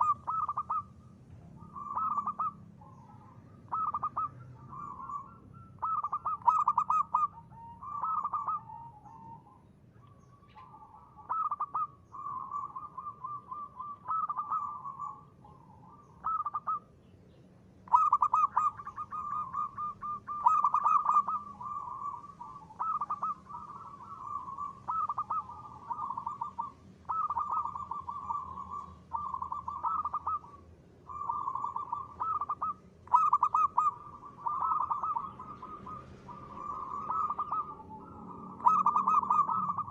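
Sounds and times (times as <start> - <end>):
dove cooing: 0.0 - 17.0, 17.8 - 39.9.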